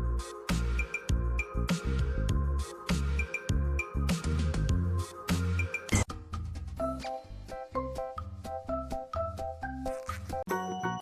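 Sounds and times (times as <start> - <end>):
bouncy background music: 0.0 - 11.0.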